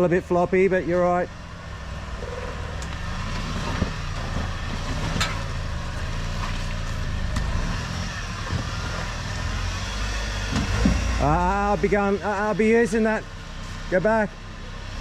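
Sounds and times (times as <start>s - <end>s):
truck engine at low revs: 0.0s - 15.0s.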